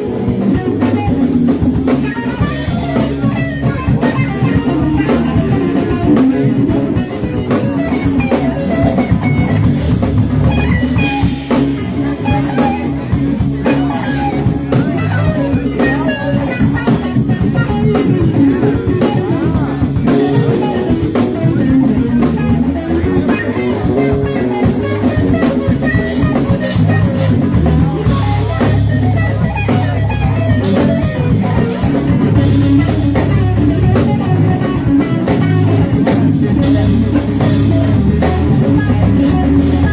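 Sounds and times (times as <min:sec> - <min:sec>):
drums: 0:00.0 - 0:39.9
electric guitar: 0:00.0 - 0:39.9.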